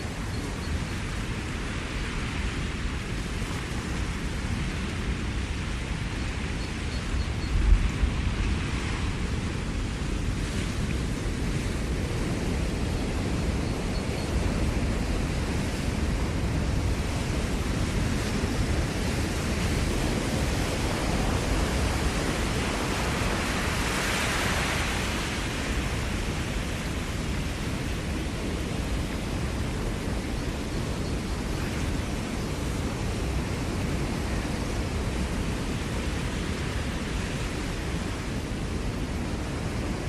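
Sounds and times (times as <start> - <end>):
ocean waves washing ashore: 0.0 - 40.0.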